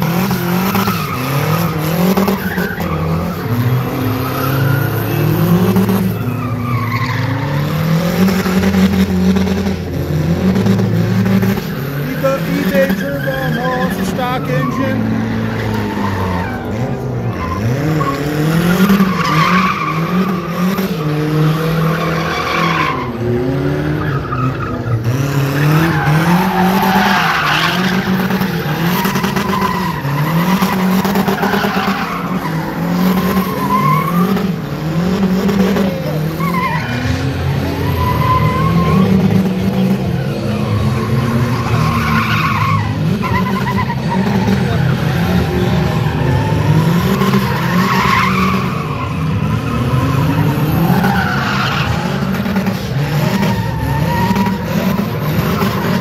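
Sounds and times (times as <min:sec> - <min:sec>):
tyres squealing: 0:00.0 - 0:08.4, 0:11.4 - 0:23.4, 0:24.0 - 0:34.6, 0:35.6 - 0:56.0
car engine revving: 0:00.0 - 0:56.0.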